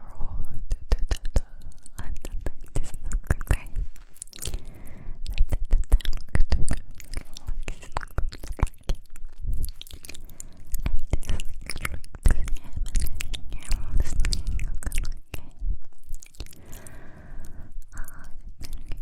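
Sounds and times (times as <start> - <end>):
wet mouth clicks and smacks: 0.5 - 19.0.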